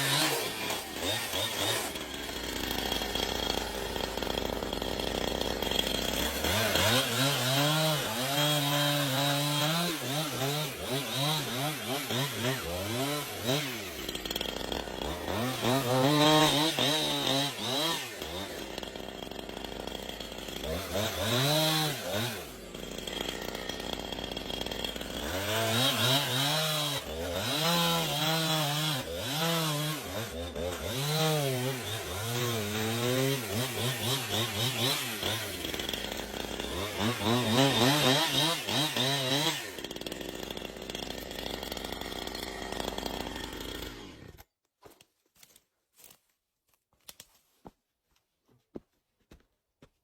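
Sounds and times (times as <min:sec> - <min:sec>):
chainsaw revving: 0:00.0 - 0:44.5.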